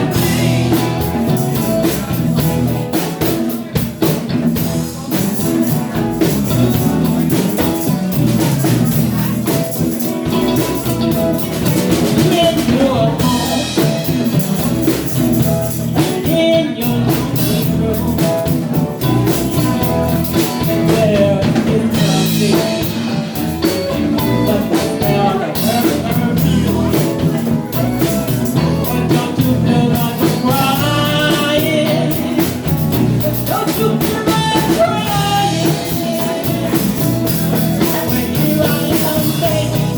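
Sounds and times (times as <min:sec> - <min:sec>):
band music with drums and guitar: 0:00.0 - 0:39.9.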